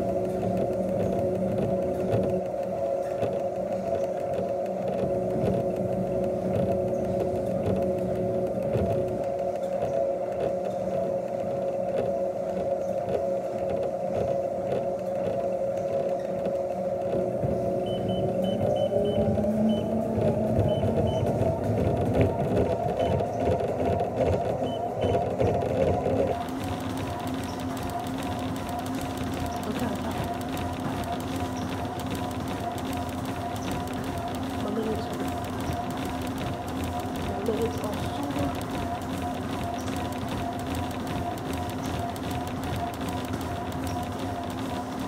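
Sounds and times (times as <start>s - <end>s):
treadmill motor whine: 0.0s - 45.0s.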